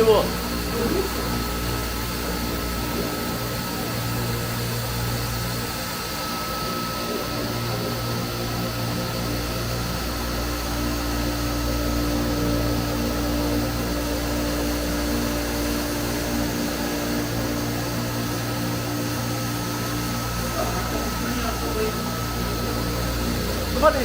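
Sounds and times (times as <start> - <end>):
foam-cutting machine running: 0.0 - 24.0.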